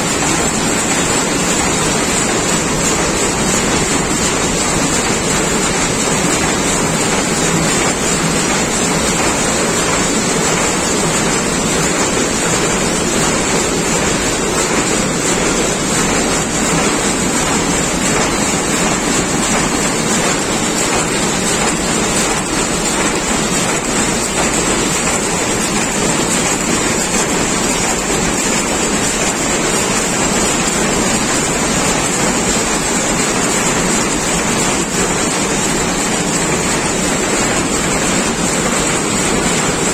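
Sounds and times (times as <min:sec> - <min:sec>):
weaving loom running: 0:00.0 - 0:39.9.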